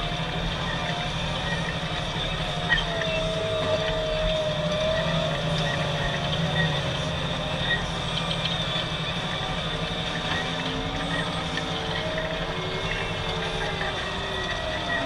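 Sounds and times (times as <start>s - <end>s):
tractor engine running: 0.0s - 15.0s
wavering whine: 0.0s - 15.0s.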